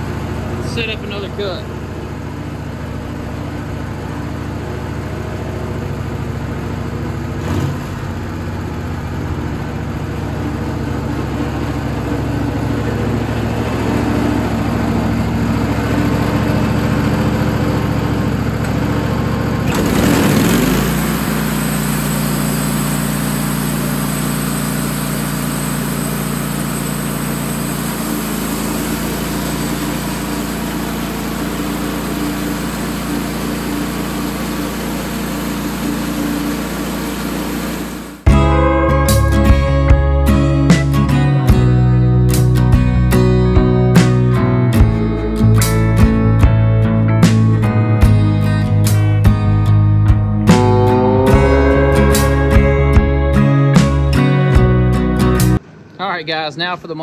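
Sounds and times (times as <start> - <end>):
bandsaw mill engine running: 0.0 - 55.9.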